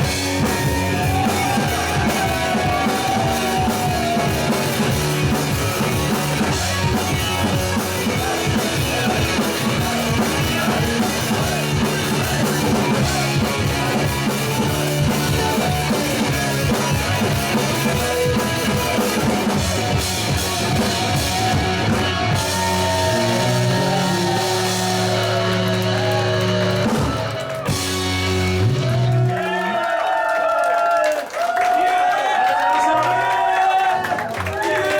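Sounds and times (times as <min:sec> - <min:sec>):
live rock band playing: 0:00.0 - 0:29.4
electric guitar: 0:00.0 - 0:29.7
drums: 0:00.0 - 0:30.5.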